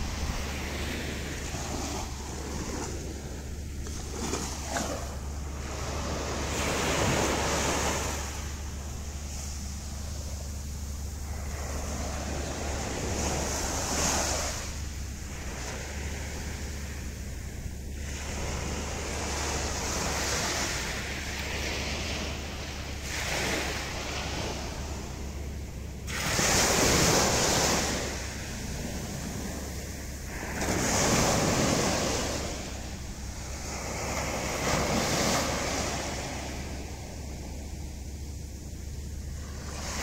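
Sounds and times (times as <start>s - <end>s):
sea waves breaking on beach: 0.0s - 40.0s.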